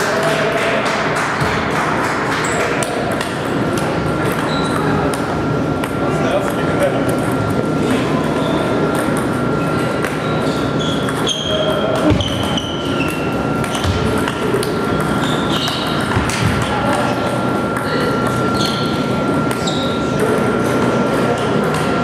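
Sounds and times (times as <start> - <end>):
murmur of voices: 0.0 - 22.0
table tennis balls clicking: 2.1 - 22.0.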